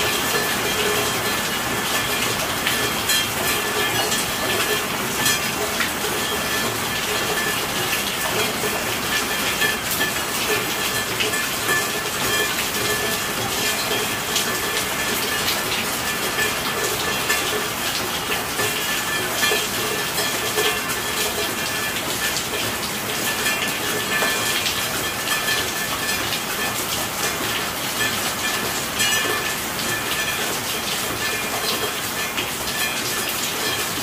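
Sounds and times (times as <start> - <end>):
steady rainfall: 0.0 - 34.0.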